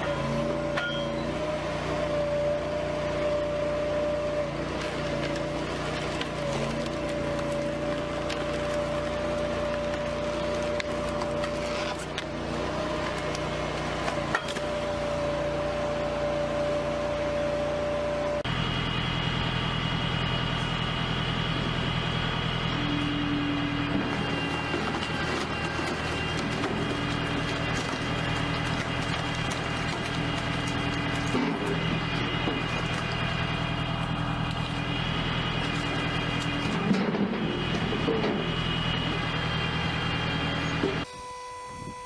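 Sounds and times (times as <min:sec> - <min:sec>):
machinery humming: 0:00.0 - 0:42.0.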